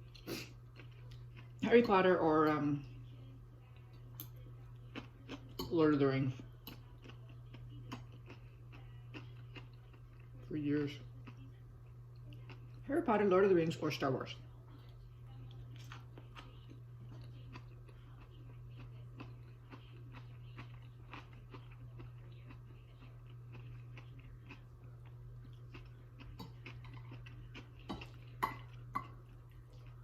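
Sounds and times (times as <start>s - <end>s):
person chewing food: 0.0s - 2.6s, 3.7s - 12.8s, 14.7s - 30.0s
low electrical hum: 0.0s - 30.0s.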